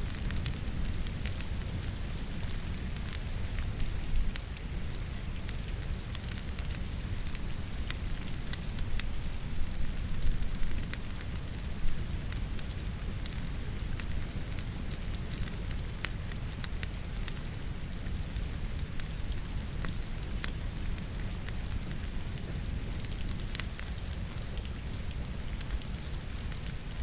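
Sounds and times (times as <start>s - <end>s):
wood logs crackling in fireplace: 0.0s - 27.0s.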